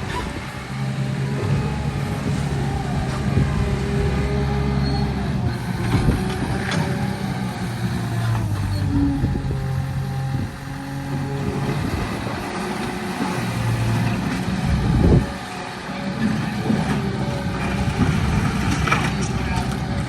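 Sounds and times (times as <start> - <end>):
bulldozer engine running: 0.0 - 20.0.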